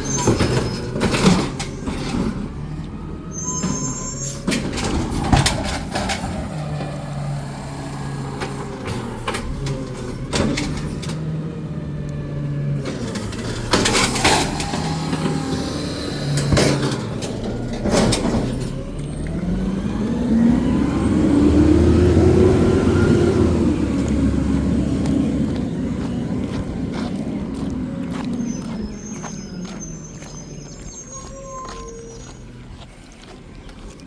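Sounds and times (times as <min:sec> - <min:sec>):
truck diesel engine revving: 0:00.0 - 0:34.0.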